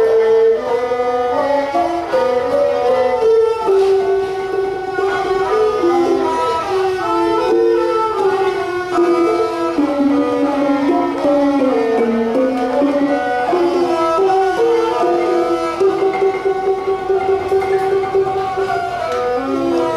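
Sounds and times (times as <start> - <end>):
bowed fiddles sliding between notes: 0.0 - 19.9.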